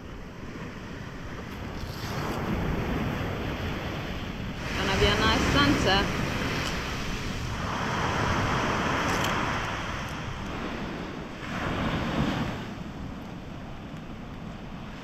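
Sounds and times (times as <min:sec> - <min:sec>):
sea surf washing onto beach: 0:00.0 - 0:15.0
wind on microphone: 0:00.0 - 0:15.0.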